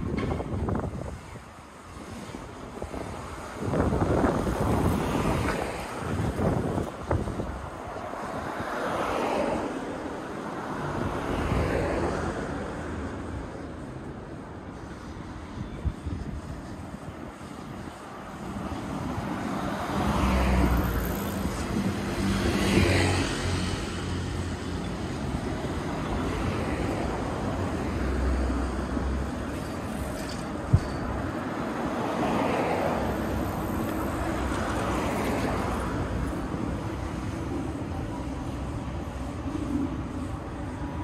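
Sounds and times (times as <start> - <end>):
cars passing: 0.0 - 41.0.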